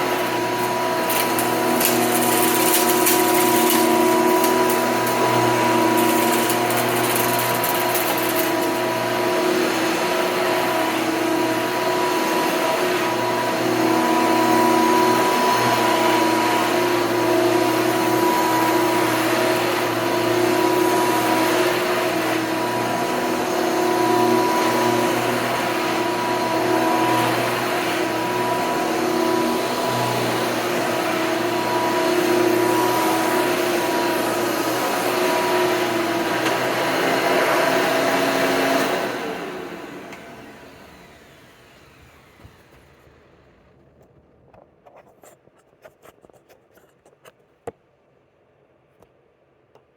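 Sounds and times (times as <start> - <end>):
vacuum cleaner motor whine: 0.0 - 44.0.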